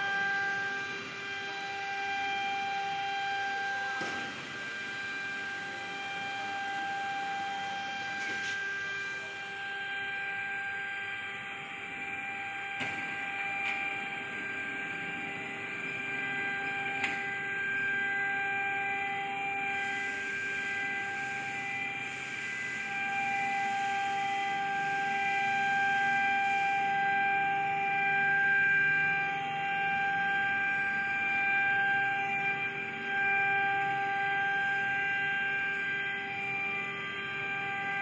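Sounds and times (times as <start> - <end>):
factory machinery hum and whine: 0.0 - 38.0.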